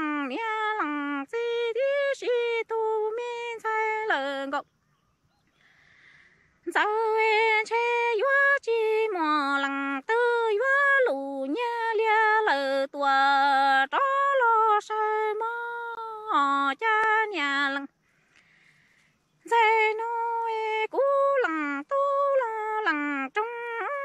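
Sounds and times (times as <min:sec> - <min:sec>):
woman singing unaccompanied: 0:00.0 - 0:04.8, 0:06.5 - 0:18.0, 0:19.3 - 0:24.0.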